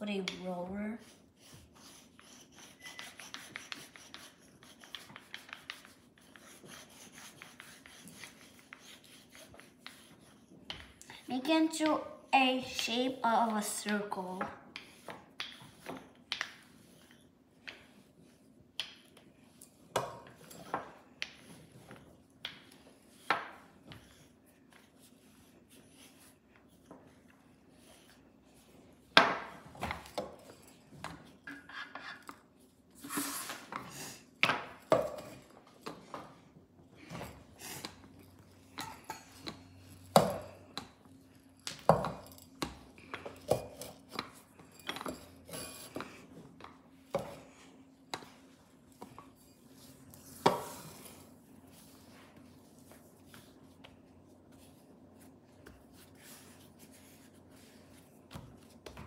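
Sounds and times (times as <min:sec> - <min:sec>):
rolling pin on stone countertop: 0:00.1 - 0:59.0.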